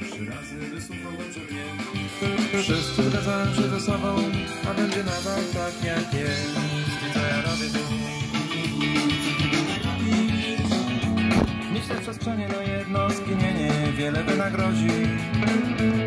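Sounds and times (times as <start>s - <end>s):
band music from radio speakers: 0.0s - 16.0s.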